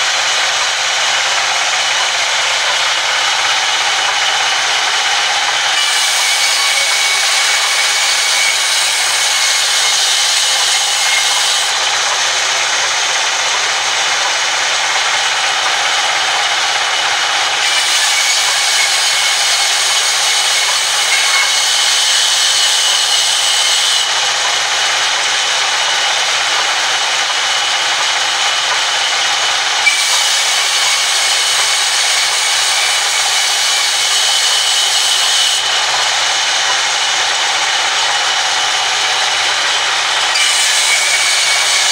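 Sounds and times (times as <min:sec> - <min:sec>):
band saw cutting timber: 0:00.0 - 0:41.9.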